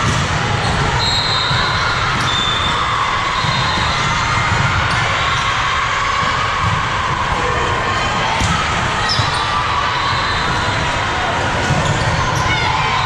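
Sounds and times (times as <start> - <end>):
volleyballs hit and bouncing: 0.0 - 9.7, 11.3 - 12.9
crowd voices: 0.0 - 13.0.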